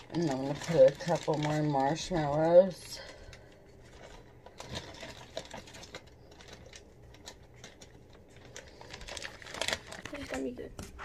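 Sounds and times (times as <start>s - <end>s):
small clicks and crackles: 0.0s - 10.9s
low steady hum: 0.0s - 11.0s.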